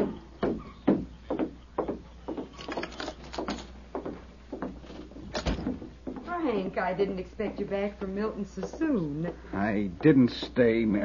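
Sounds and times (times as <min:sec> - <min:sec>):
footsteps on wooden boards: 0:00.0 - 0:11.0.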